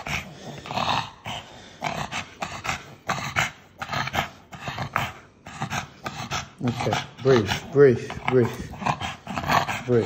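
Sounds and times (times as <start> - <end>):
dog panting hard: 0.0 - 10.0.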